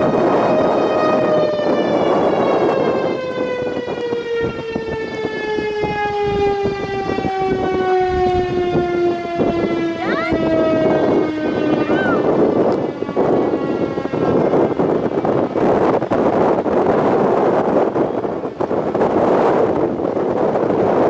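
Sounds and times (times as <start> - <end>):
tornado siren winding down: 0.0 - 21.0
wind on microphone: 0.0 - 21.0.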